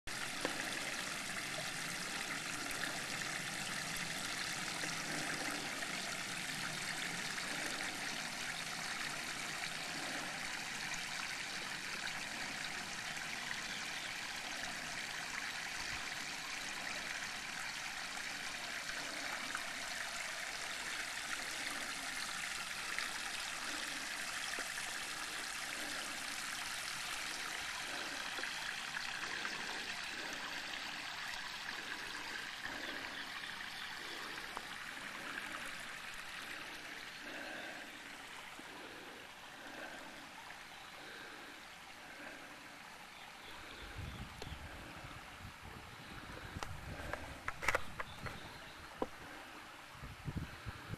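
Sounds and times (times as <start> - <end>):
stream trickling over rock: 0.1 - 50.9.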